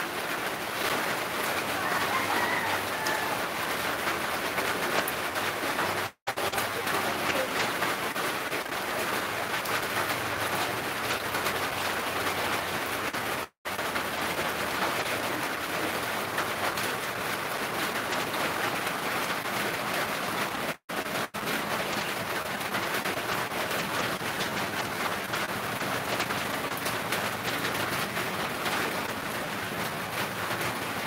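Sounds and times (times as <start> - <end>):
rain spattering on ground: 0.0 - 31.0.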